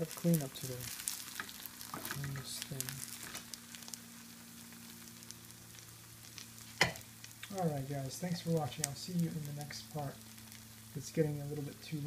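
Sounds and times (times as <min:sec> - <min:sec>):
food frying in oil: 0:00.0 - 0:12.0
steady low hum: 0:00.0 - 0:12.0.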